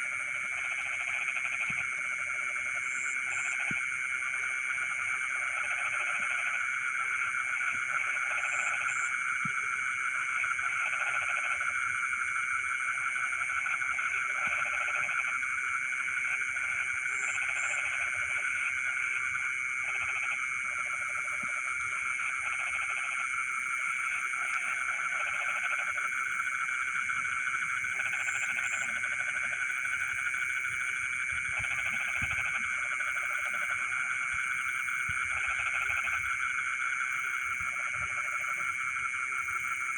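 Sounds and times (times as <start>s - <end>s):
frogs croaking: 0.0s - 39.9s
frogs trilling drone: 0.0s - 39.9s.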